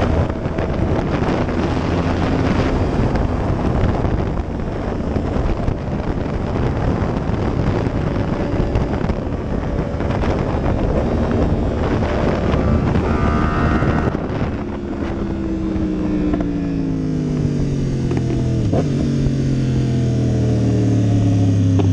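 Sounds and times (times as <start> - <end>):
motorcycle engine: 0.0 - 21.9
wind rushing over microphone: 0.0 - 21.9.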